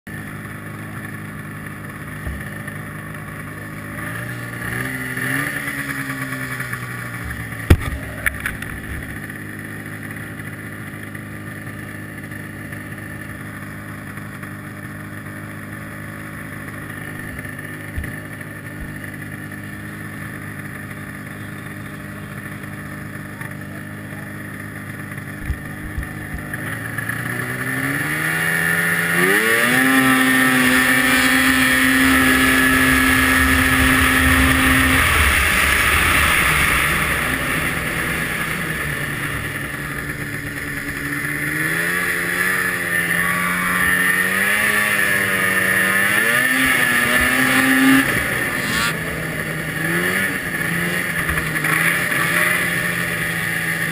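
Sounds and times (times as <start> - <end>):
snowmobile engine idling and revving: 0.0 - 53.9.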